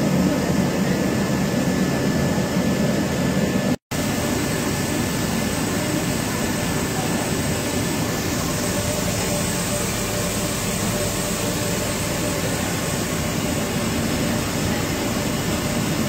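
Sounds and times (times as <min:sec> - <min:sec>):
machinery roar with high whine: 0:00.0 - 0:16.0.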